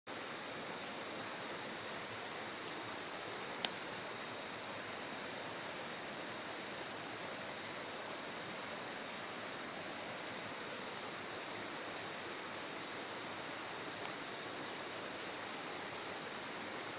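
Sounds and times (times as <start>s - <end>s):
river rushing: 0.1s - 16.9s
wood fire crackle: 1.3s - 16.9s.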